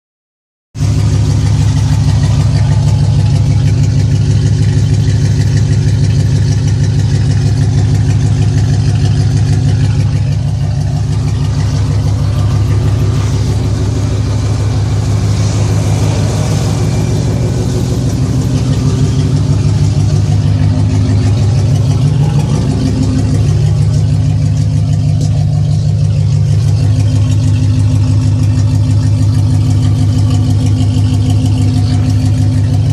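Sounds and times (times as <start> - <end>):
loud pickup exhaust idling: 0.8 - 32.9.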